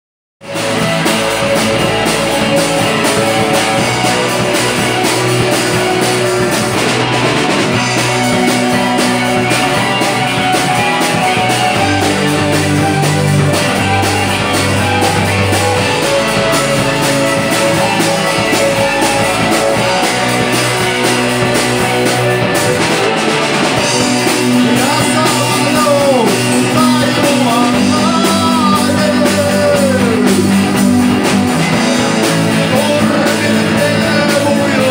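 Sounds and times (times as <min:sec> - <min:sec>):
live rock band playing: 0:00.4 - 0:34.9.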